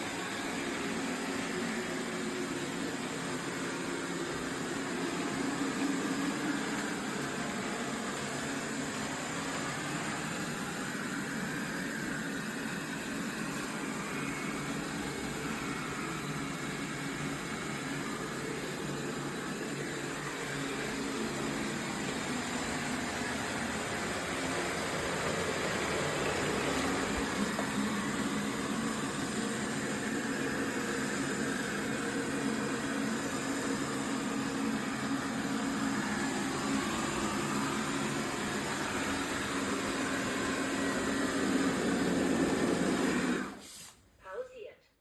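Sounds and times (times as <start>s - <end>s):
robot vacuum fan whirring: 0.0s - 44.0s.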